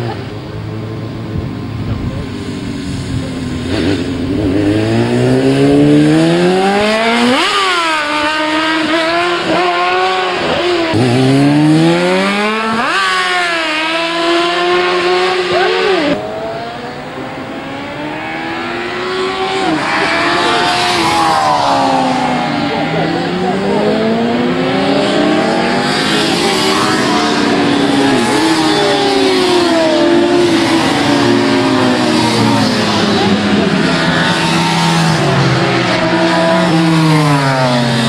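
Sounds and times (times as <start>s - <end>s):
racing motorcycle engines accelerating: 0.0s - 38.0s.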